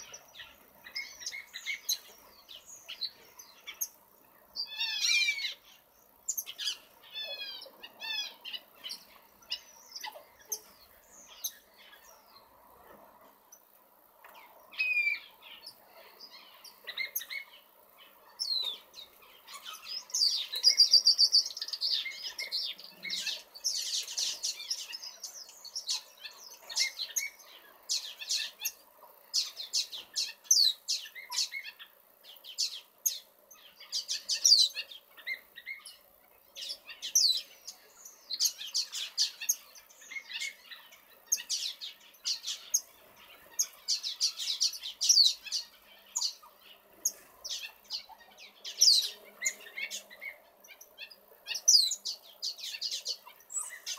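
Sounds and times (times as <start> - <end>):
finches chirping and calling: 0.0 - 53.9.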